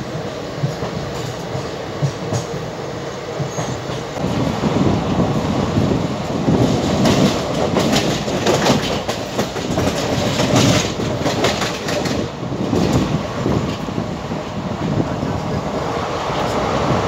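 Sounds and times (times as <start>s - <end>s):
train wheels clattering over rails: 0.0s - 14.1s.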